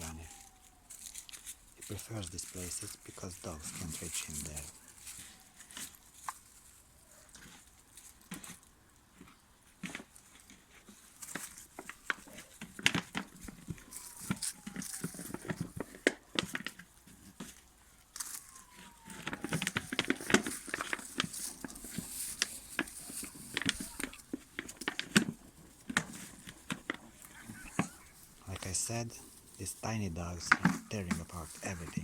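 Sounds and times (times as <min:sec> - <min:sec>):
puppies scuffling and tearing: 0:00.0 - 0:29.6.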